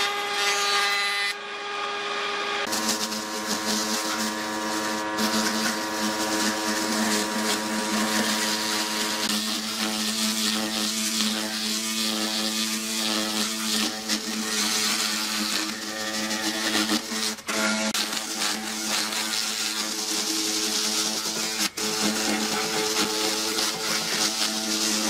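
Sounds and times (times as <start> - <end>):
electric power tool motor hum: 2.6 - 25.0.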